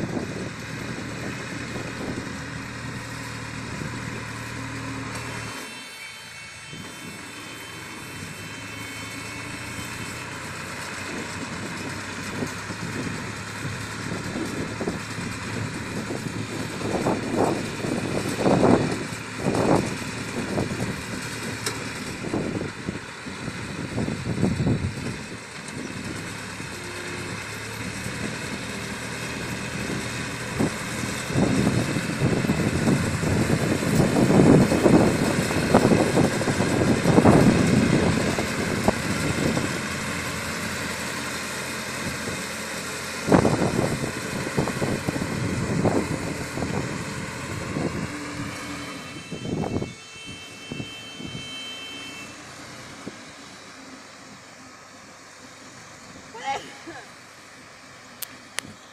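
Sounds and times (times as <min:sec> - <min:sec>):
tractor engine running: 0:00.0 - 0:05.7, 0:06.7 - 0:58.9.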